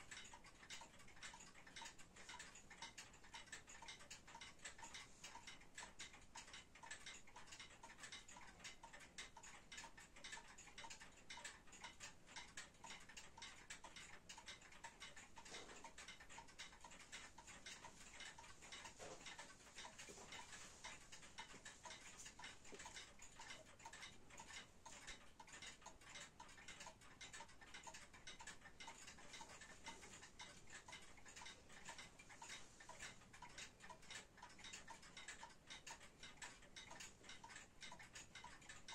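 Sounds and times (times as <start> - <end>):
wall clock ticking: 0.0 - 38.9.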